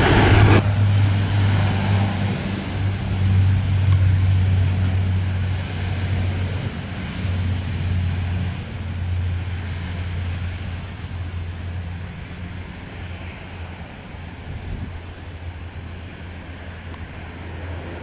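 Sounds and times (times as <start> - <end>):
broad rushing noise: 0.0 - 18.0
propeller aircraft drone: 0.0 - 18.0.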